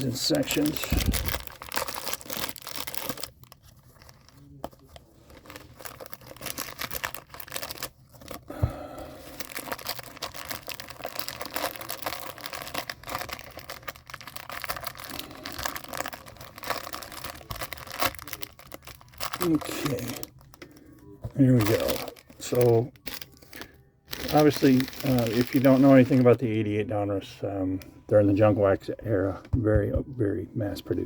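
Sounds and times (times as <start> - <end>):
plastic wrapper tearing and crinkling: 0.0 - 8.5, 9.2 - 26.4.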